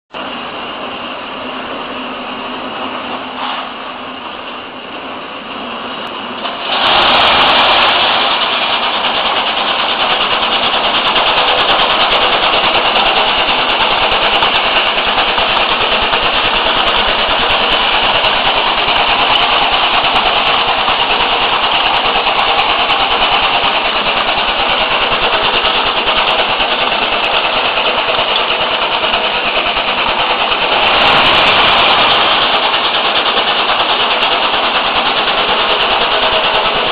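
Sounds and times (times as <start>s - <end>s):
almond cracking machine running: 0.2s - 36.9s.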